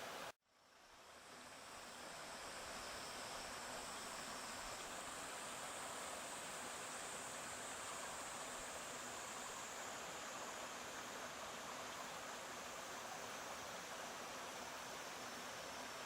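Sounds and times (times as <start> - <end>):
stream flowing: 1.0 - 16.0
high hiss of water: 1.1 - 16.0.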